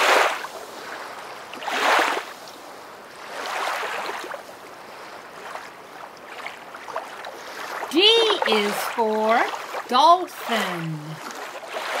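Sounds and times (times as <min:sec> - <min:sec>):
rushing water waves: 0:00.0 - 0:12.0.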